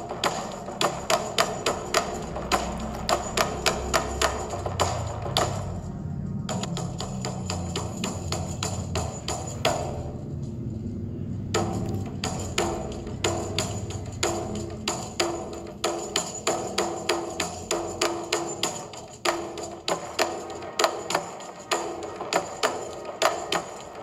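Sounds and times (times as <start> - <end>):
wood-block-like percussive taps: 0.0 - 10.2, 11.5 - 24.0.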